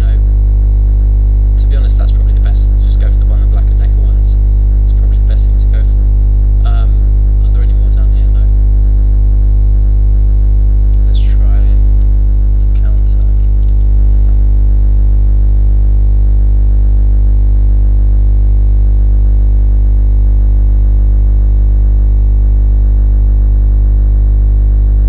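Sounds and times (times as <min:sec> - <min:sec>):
deep bass: 0:00.0 - 0:25.0.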